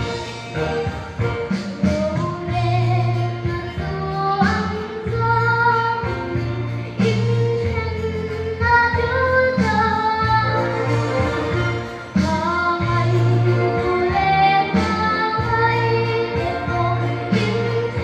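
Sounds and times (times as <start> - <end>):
instrumental accompaniment with bass: 0.0 - 18.0
girl singing into a microphone: 1.7 - 18.0.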